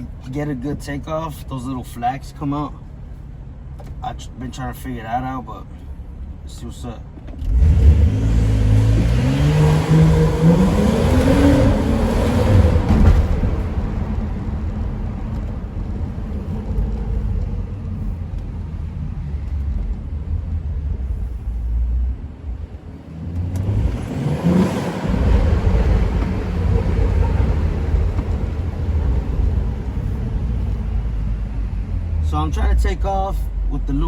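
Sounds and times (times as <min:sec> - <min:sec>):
car engine rumbling and revving: 0:00.0 - 0:34.0.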